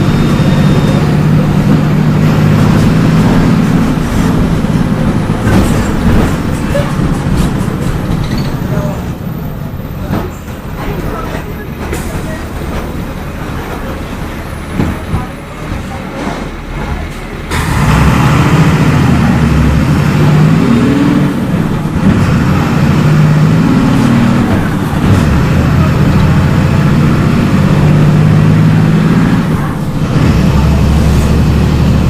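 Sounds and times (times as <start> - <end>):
diesel bus engine running: 0.0 - 32.0.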